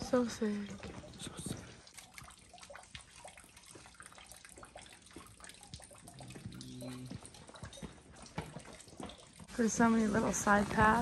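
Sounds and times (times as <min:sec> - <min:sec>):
low steady hum: 0:00.0 - 0:11.0
water trickling and splashing: 0:00.0 - 0:11.0.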